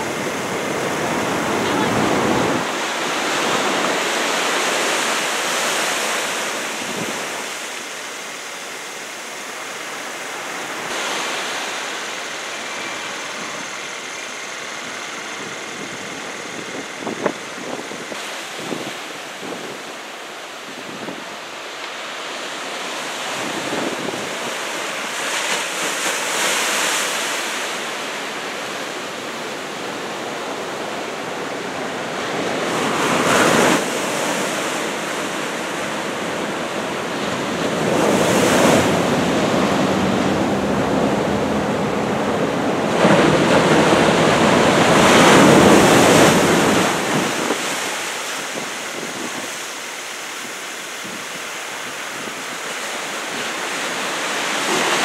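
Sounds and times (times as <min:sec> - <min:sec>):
heavy ocean waves breaking: 0:00.0 - 0:55.0.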